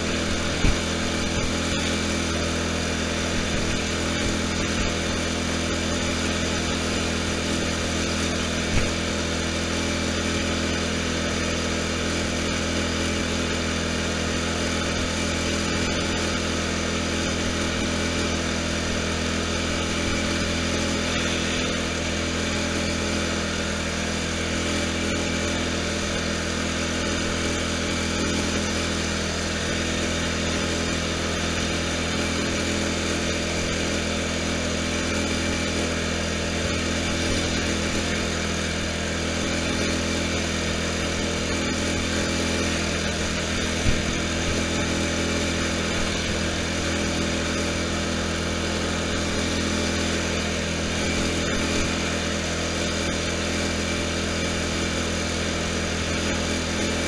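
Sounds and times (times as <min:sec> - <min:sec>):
lawn tractor engine droning: 0:00.0 - 0:57.0.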